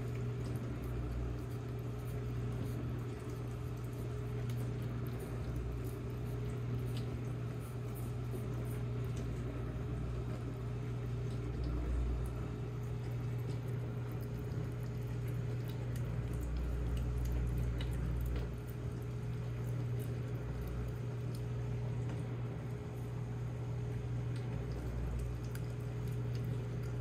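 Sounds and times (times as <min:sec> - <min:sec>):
cats lapping: 0:00.0 - 0:27.0
steady low hum: 0:00.0 - 0:27.0.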